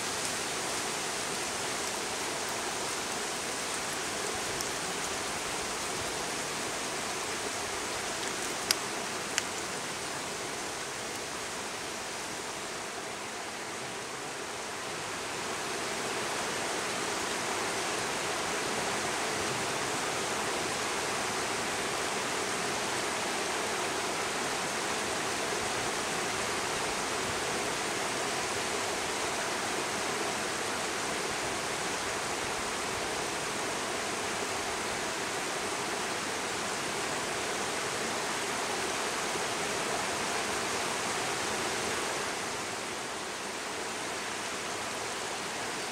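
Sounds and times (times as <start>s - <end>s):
river rushing over rocks: 0.0s - 45.9s.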